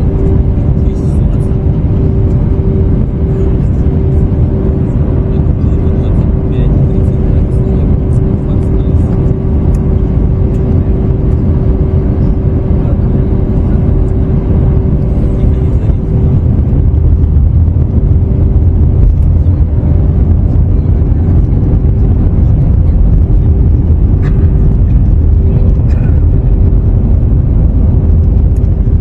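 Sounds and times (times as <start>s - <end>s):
aircraft cabin engine rumble: 0.0s - 29.0s
constant hum: 0.0s - 29.0s.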